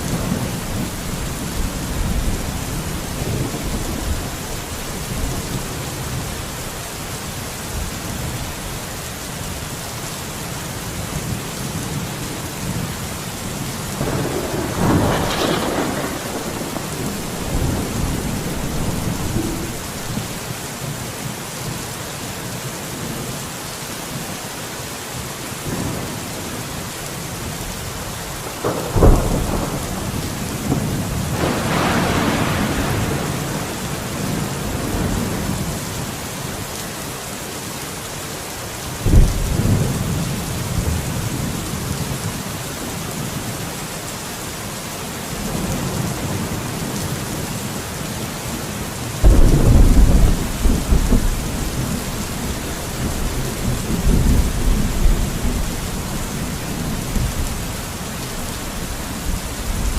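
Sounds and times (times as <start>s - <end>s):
rain hissing: 0.0s - 21.5s, 27.9s - 59.9s.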